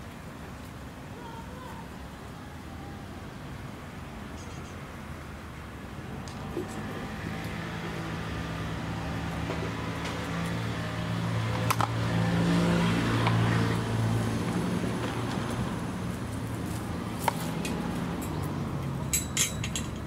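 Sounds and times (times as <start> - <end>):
vehicle engine hum: 1.6 - 20.0.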